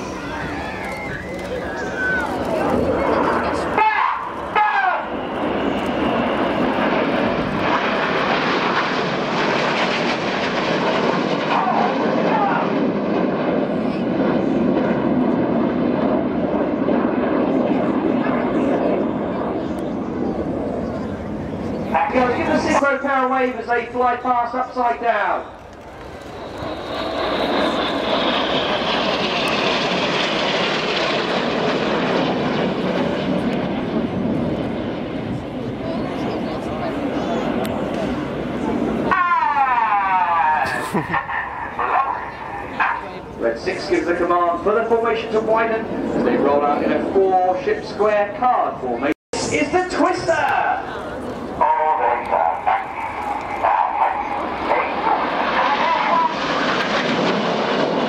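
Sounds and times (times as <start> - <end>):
jets flying past: 0.0 - 58.0.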